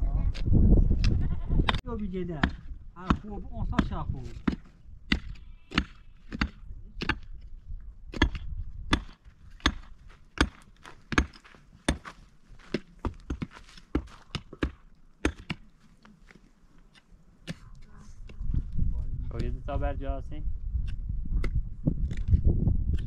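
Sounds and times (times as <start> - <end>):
digging tools striking stony ground: 1.6 - 18.4, 20.8 - 23.0.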